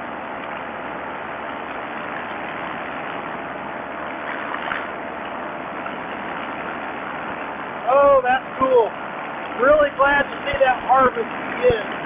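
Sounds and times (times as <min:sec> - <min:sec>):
two-stroke engine droning: 0:00.0 - 0:12.0.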